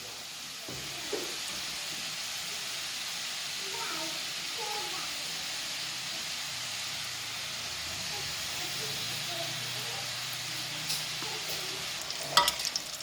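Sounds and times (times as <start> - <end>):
noodles deep-frying in oil: 0.0 - 13.0.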